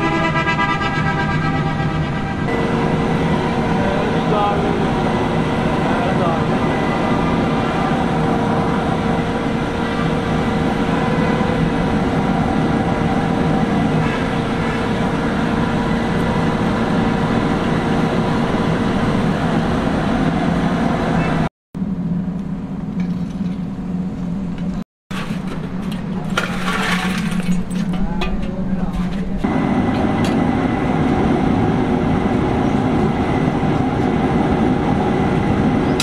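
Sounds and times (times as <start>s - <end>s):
furnace air blower humming: 2.5s - 24.6s, 28.5s - 36.0s.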